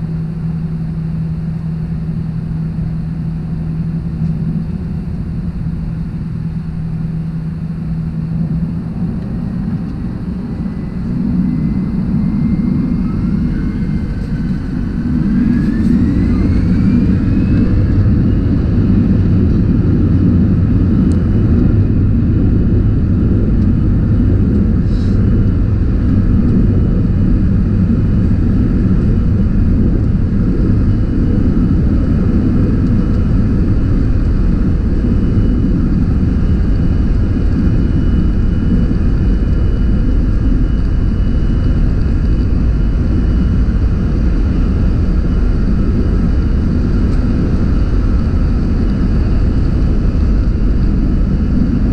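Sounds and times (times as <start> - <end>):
faint high whine: 0.0 - 51.9
jet engines and airflow rumble: 0.0 - 51.9.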